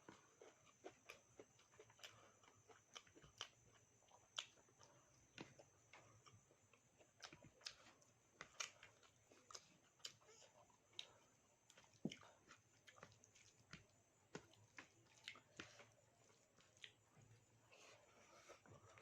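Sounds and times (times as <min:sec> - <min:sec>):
chewing and mouth sounds: 0:00.1 - 0:17.1.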